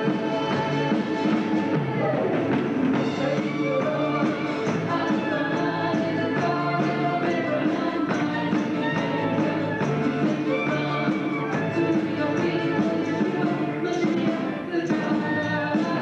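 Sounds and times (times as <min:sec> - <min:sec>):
worship band playing upbeat song: 0:00.0 - 0:16.0.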